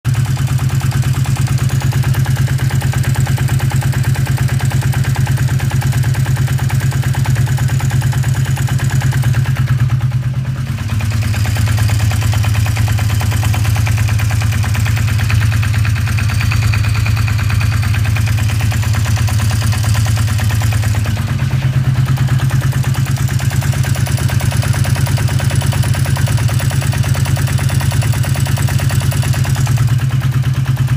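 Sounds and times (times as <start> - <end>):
engine knocking and rattling: 0.0 - 30.9
motorcycle engine running: 0.0 - 30.9.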